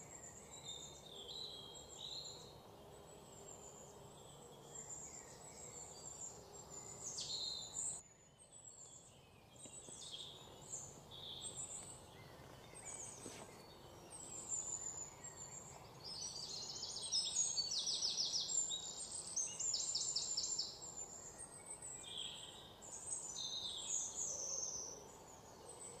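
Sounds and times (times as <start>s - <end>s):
faint outdoor background noise: 0.0s - 26.0s
small birds chirping: 0.0s - 26.0s.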